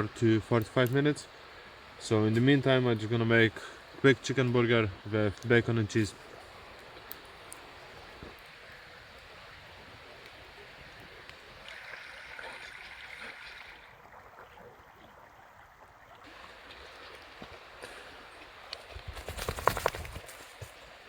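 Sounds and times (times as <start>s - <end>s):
burning wood crackling: 0.0s - 14.1s, 16.2s - 21.0s
campfire hissing: 0.0s - 14.9s, 15.6s - 21.0s.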